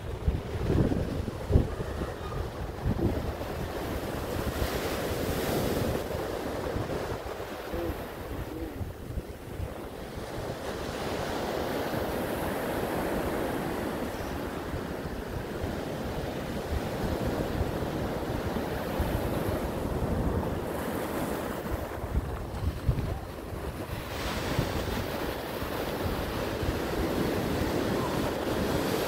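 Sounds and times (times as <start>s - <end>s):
ocean waves breaking: 0.0s - 29.0s
wind buffeting microphone: 0.0s - 29.0s.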